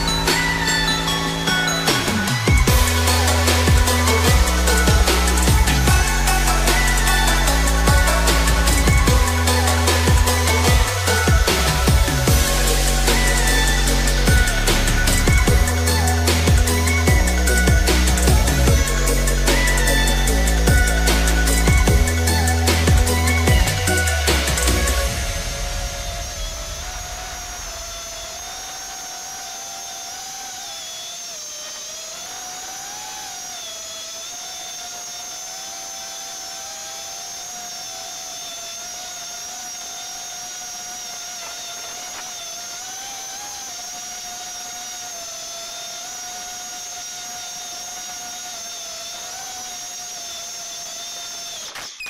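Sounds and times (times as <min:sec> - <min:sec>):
drone motors high whine: 0:00.0 - 0:52.0.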